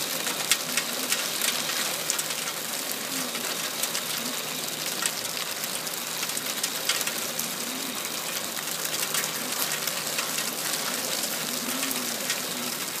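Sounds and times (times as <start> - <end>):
hail falling on wooden deck: 0.0 - 13.0.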